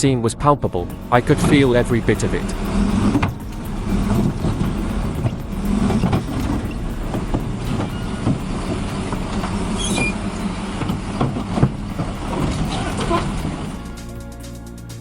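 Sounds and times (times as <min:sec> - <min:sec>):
heavy vehicle engine rumble: 0:00.8 - 0:14.4.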